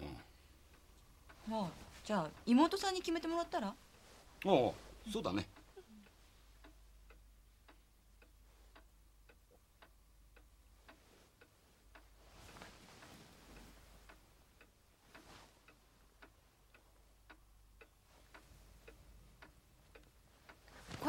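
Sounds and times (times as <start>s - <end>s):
soft rush of noise: 0.0s - 21.0s
clock-like ticking: 0.1s - 12.6s, 13.6s - 20.7s.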